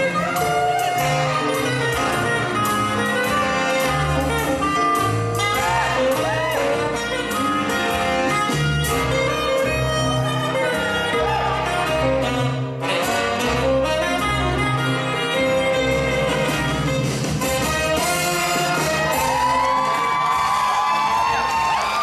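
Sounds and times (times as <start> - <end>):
jazzy band music: 0.0 - 22.0.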